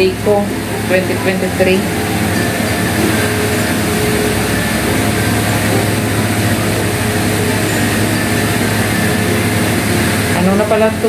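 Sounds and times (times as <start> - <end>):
electric fan whirring: 0.0 - 11.0
low motor hum: 0.0 - 11.0.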